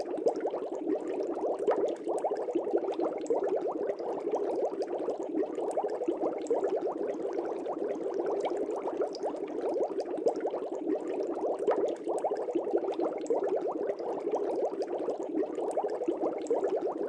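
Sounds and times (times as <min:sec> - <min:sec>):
aquarium air bubbling: 0:00.0 - 0:17.0.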